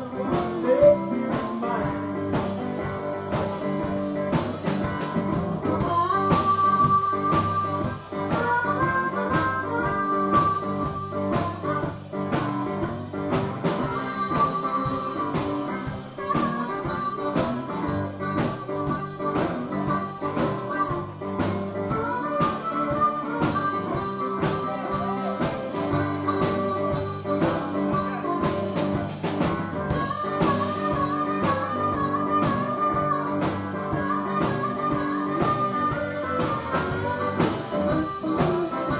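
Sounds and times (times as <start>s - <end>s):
drums keeping a steady beat: 0.0s - 38.9s
electric guitars: 0.0s - 38.9s
harmonica melody: 0.0s - 38.9s.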